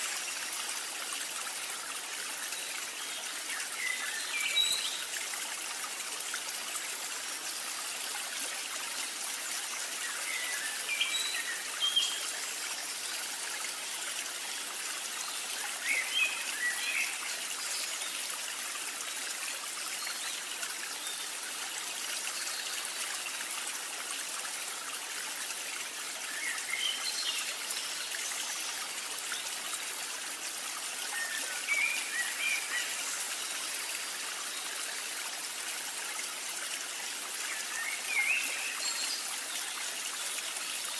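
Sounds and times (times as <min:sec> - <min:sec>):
trickle of running water: 0:00.0 - 0:40.9.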